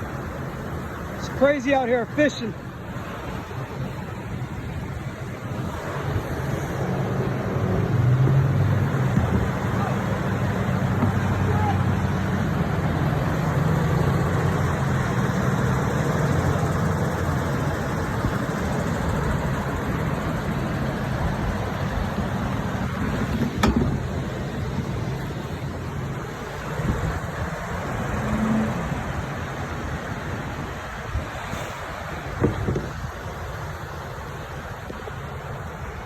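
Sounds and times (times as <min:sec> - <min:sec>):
engine humming: 0:00.0 - 0:36.0
noisy rushing: 0:00.0 - 0:36.0.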